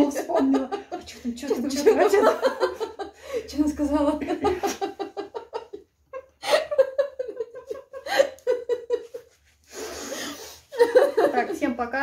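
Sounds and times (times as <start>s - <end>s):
women laughing: 0.0s - 9.4s, 10.7s - 11.9s.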